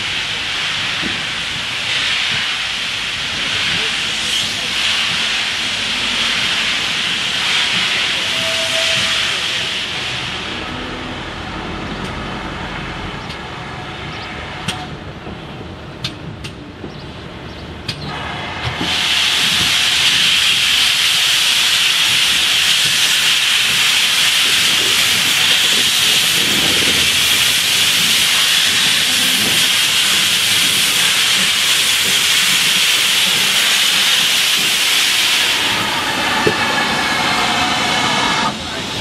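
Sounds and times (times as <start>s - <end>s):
steam locomotive hissing: 0.0s - 16.6s, 17.4s - 39.0s.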